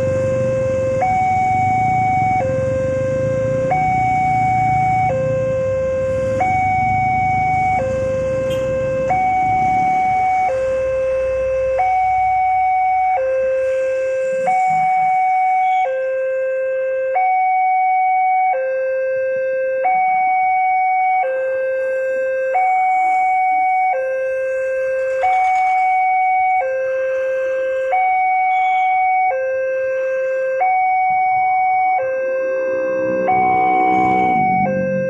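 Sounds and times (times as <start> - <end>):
level-crossing two-tone alarm: 0.0 - 35.0.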